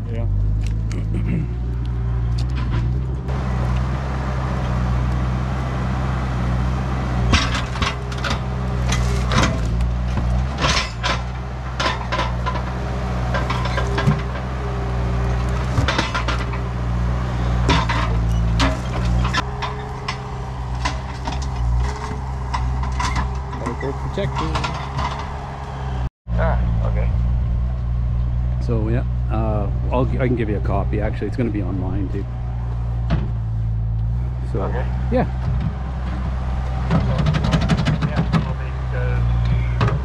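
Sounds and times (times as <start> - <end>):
diesel engine running: 0.0 - 40.0
logs and steel banging: 1.6 - 26.1, 27.7 - 40.0.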